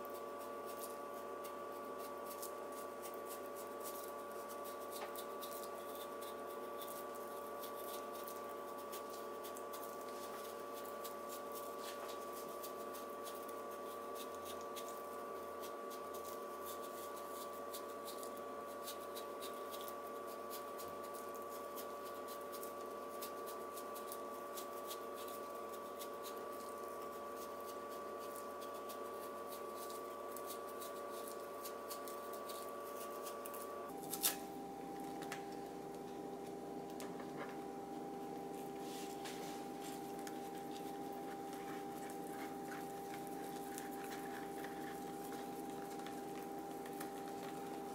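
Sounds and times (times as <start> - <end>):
knife ticking shaving radish: 0.0 - 34.5, 37.8 - 47.9
steady multi-tone hum: 0.0 - 47.9.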